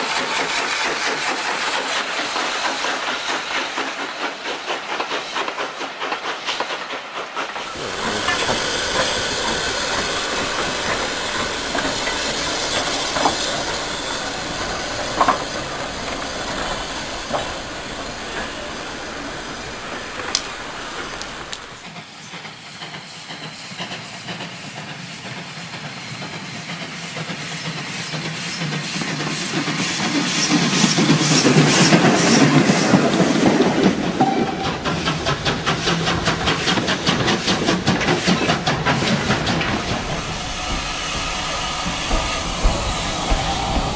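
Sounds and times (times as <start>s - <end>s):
model steam locomotive chuffing: 0.0s - 43.9s
model train approaching: 0.0s - 43.9s.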